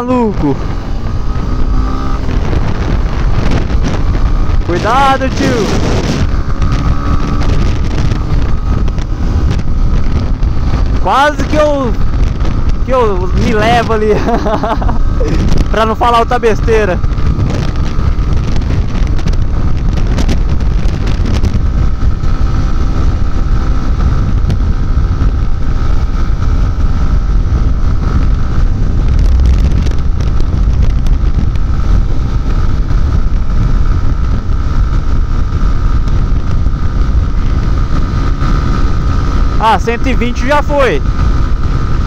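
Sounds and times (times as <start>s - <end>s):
motorcycle engine running: 0.0s - 42.0s
wind buffeting microphone: 0.0s - 42.0s.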